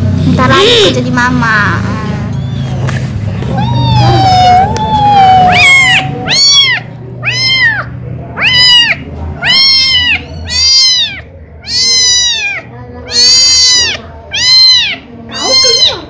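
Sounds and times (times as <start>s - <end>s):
kitten mewing: 2.1s - 16.0s.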